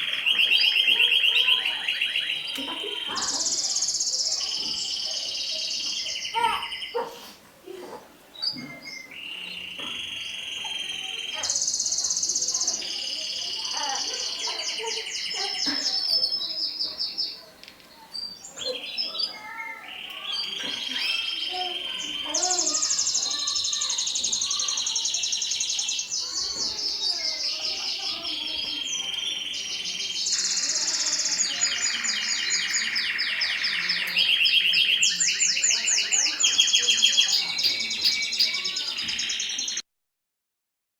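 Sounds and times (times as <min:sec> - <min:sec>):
canary singing trilled phrases: 0:00.0 - 0:07.0, 0:08.4 - 0:17.5, 0:18.2 - 0:39.8.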